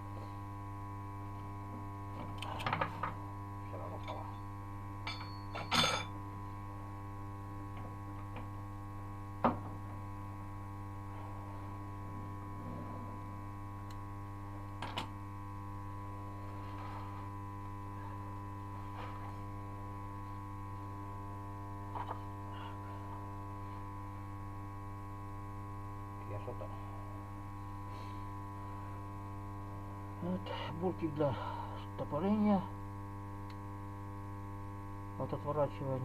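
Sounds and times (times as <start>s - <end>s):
electric hum: 0.0s - 36.0s.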